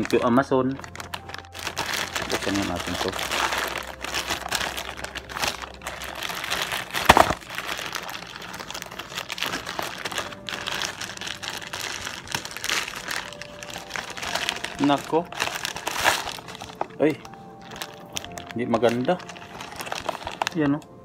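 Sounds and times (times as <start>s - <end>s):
plastic bag crinkling and tearing: 0.0s - 20.8s.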